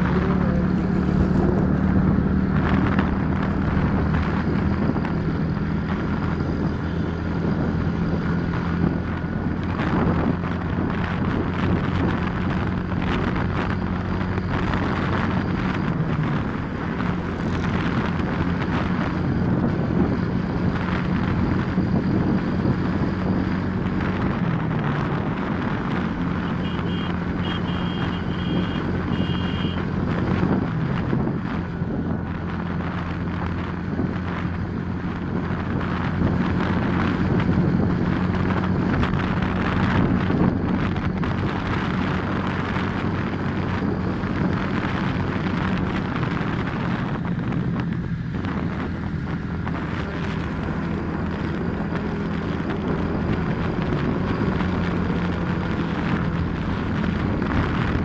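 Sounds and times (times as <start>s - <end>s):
wind buffeting microphone: 0.0s - 27.2s, 29.8s - 58.0s.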